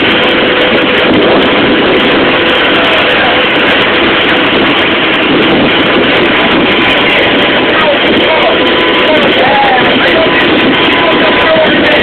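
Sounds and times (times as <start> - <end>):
faint whine: 0.0 - 12.0
jet engine roaring: 0.0 - 12.0.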